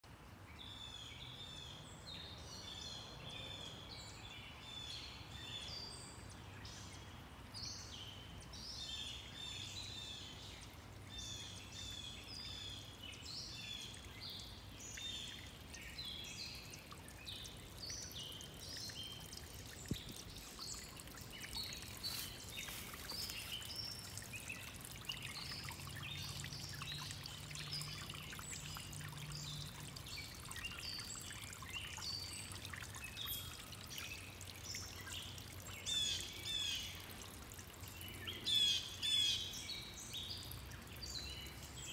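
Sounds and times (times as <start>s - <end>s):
brook trickling over stones: 0.0s - 41.9s
songbirds chirping: 0.0s - 41.9s.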